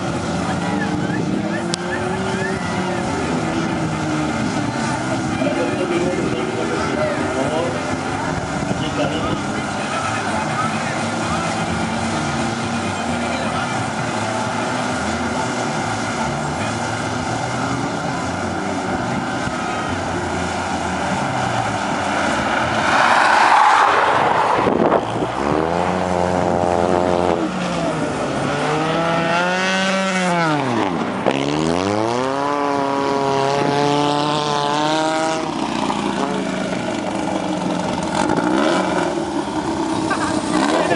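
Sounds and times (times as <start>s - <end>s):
car rushing past: 0.0s - 40.9s
engine revving: 0.0s - 40.9s
race car engines running: 0.0s - 40.9s.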